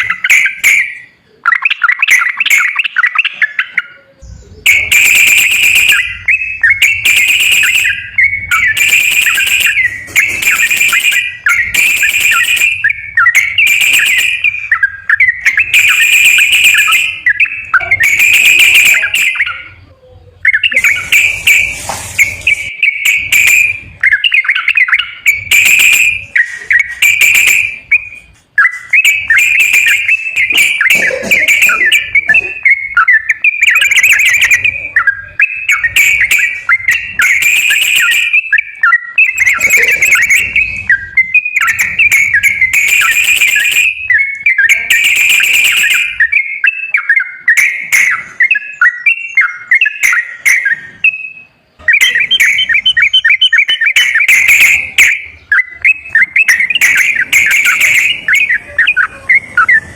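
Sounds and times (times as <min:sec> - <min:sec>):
bulbul whistled song: 0:00.0 - 0:59.9.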